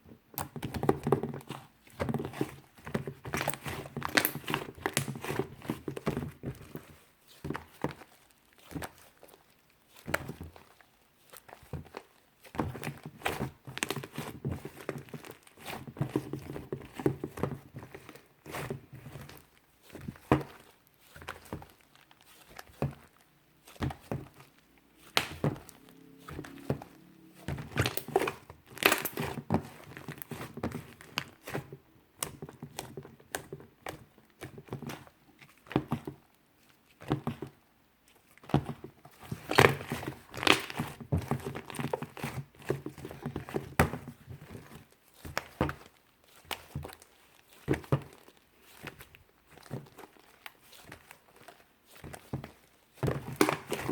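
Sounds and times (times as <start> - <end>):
clay slime squeezed by hand: 0.2 - 53.9.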